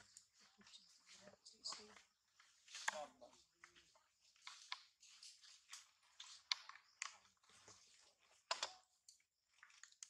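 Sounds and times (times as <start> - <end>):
monkey chewing and handling food: 0.0 - 10.0.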